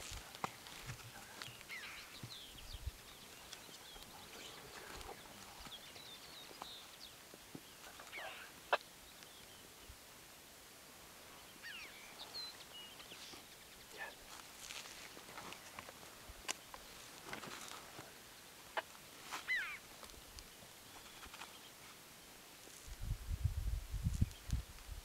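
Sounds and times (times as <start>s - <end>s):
small birds chirping: 0.0s - 10.0s, 11.2s - 22.4s, 24.0s - 24.7s.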